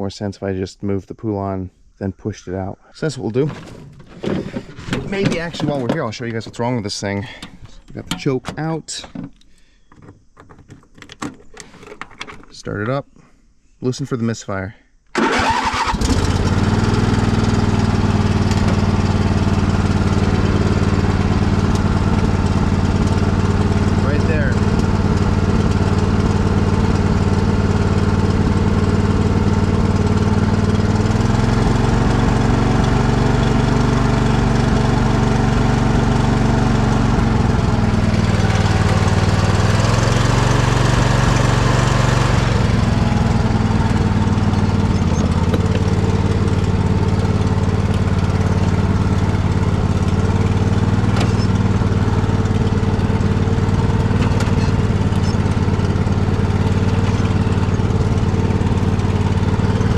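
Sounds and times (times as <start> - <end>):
riding mower engine misfiring: 3.4 - 13.0, 15.1 - 59.9.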